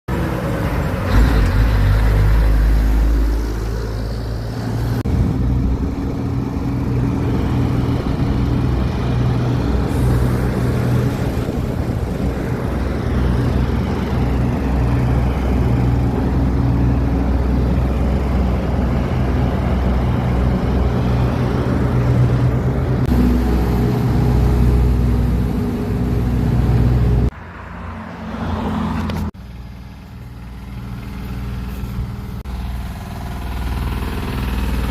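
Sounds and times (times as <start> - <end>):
truck engine rumbling: 0.1 - 34.9.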